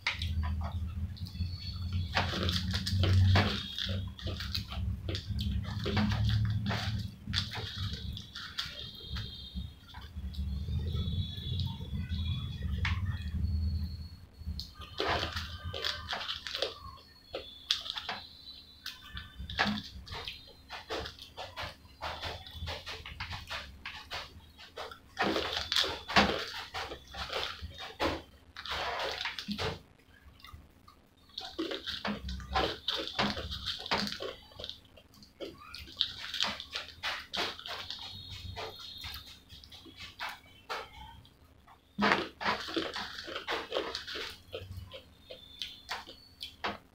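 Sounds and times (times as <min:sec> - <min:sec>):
chewing with wet mouth sounds: 0:00.0 - 0:46.9
fingers picking through fries: 0:00.0 - 0:46.9
fries crunching: 0:00.0 - 0:46.9.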